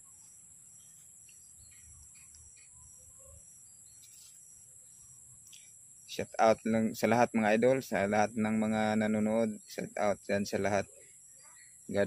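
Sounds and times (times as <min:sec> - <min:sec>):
faint bird chirps: 0:00.0 - 0:12.0
high-pitched insect drone: 0:00.0 - 0:12.0.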